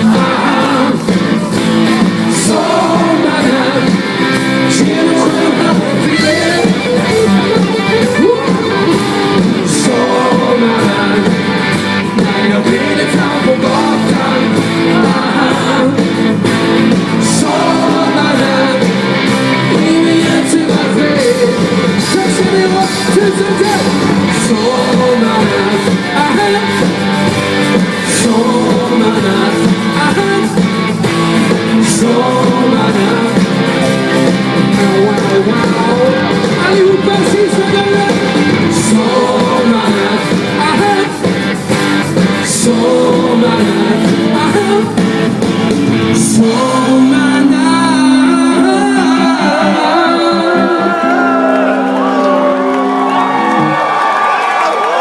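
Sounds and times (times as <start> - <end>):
person singing: 0.0 - 41.4, 42.2 - 53.9
electric guitar: 0.0 - 55.0
live band playing pop song: 0.0 - 55.0.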